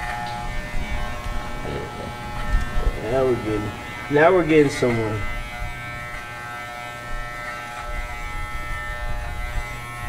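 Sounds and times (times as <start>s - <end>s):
electric hair clippers buzzing: 0.0s - 10.0s.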